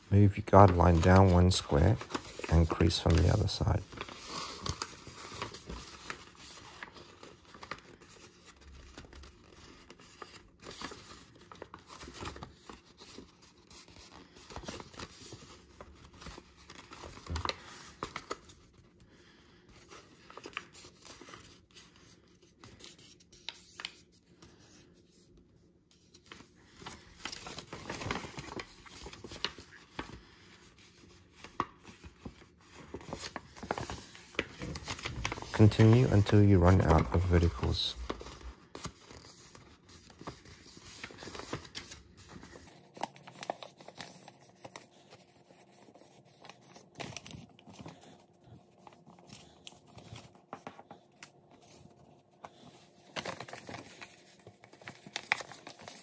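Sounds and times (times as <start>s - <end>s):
paper crinkling and rustling: 0.0s - 56.0s.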